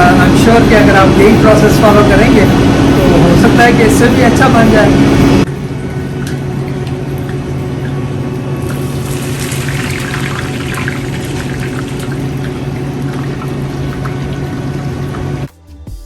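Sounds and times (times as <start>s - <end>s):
mechanical hum: 0.0s - 15.5s.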